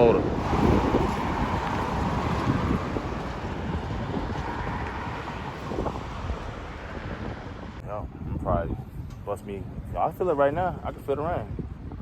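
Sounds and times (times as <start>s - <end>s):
steady outdoor noise: 0.0s - 12.0s
wind buffeting microphone: 0.0s - 12.0s.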